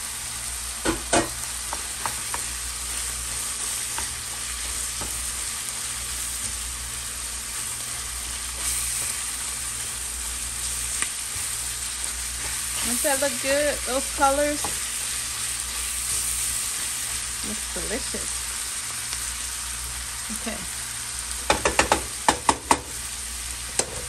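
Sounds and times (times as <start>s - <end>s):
meat sizzling in a frying pan: 0.0s - 24.0s.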